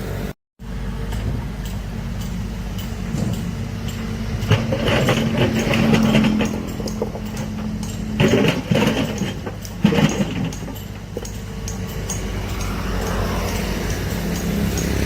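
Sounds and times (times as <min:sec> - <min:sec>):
heavy machinery diesel engine: 0:00.0 - 0:15.0
clanking and rattling: 0:01.1 - 0:15.0.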